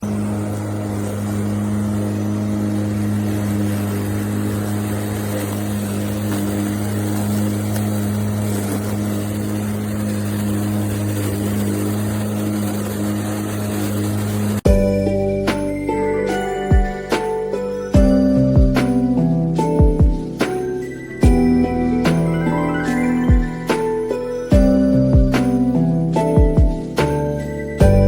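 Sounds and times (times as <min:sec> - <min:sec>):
lawnmower running: 0:00.0 - 0:28.0.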